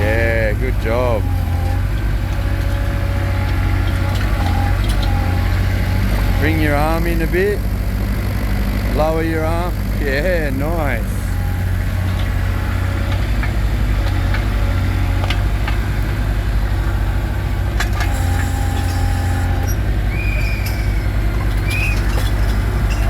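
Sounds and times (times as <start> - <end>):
digger arm whine: 0.0 - 23.0
digger motor pulsing drone: 0.0 - 23.0.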